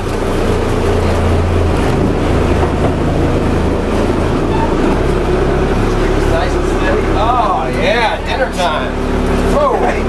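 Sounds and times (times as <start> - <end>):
boat engine droning: 0.0 - 10.0
wind: 0.0 - 10.0.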